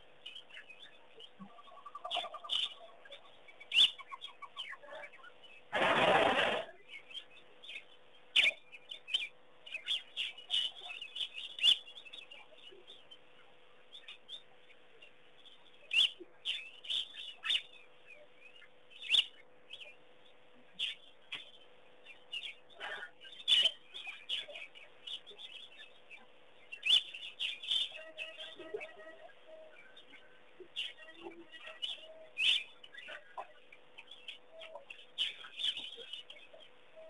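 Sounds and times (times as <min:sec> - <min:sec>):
birds chirping: 0:00.0 - 0:37.0
faint steady hum: 0:00.0 - 0:37.0.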